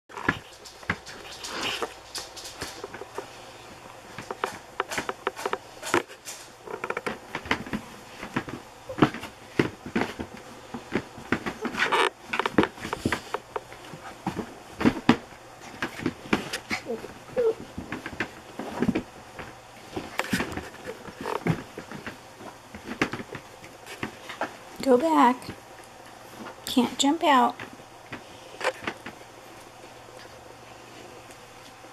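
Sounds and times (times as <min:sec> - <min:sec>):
patter of paws: 0:00.1 - 0:24.8, 0:27.6 - 0:31.9
puppies scuffling on bedding: 0:00.1 - 0:31.9.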